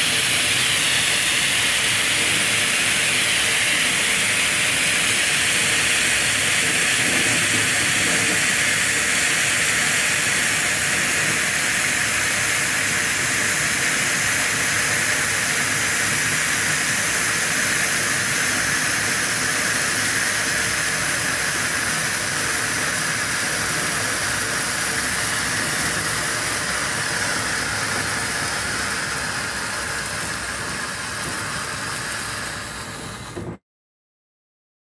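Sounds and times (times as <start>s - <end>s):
firework fountains hissing: 0.0s - 33.6s.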